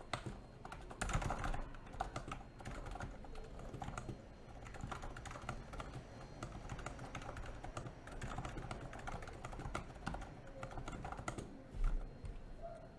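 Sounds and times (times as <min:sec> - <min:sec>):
keyboard typing: 0:00.0 - 0:12.8.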